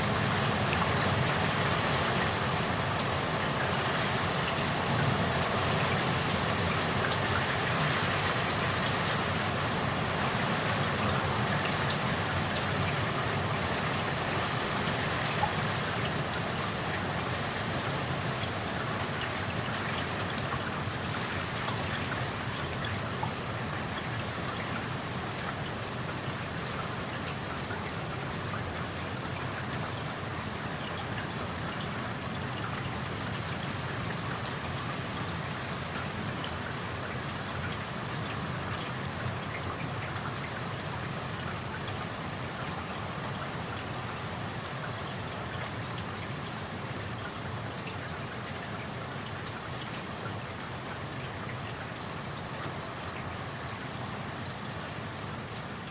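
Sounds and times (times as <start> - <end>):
steady rain patter: 0.0 - 55.9.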